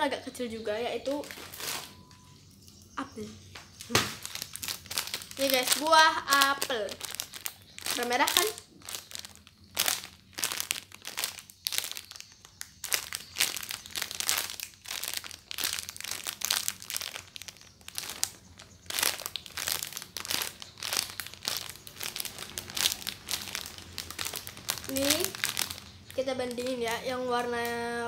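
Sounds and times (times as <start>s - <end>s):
plastic bag crinkling: 1.0s - 2.7s, 3.7s - 27.9s.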